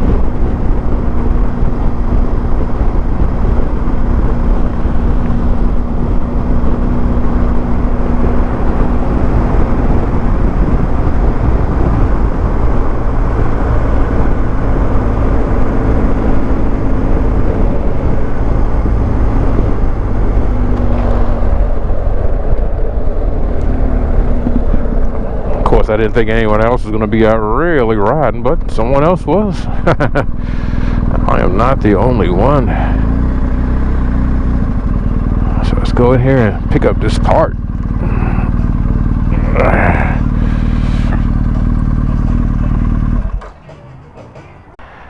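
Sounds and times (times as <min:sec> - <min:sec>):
wind noise: 0:00.0 - 0:43.4
motorcycle engine running: 0:00.0 - 0:45.0
road noise: 0:00.0 - 0:45.0.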